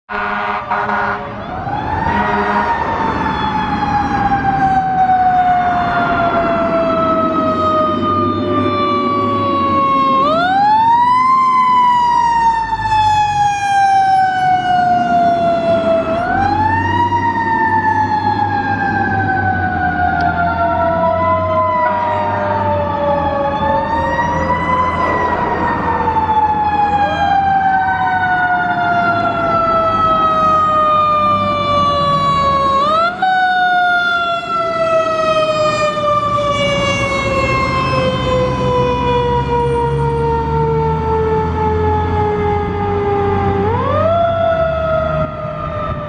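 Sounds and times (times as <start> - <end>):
fire truck sirens wailing: 0.1 - 46.0
truck engine rumble: 0.2 - 46.0.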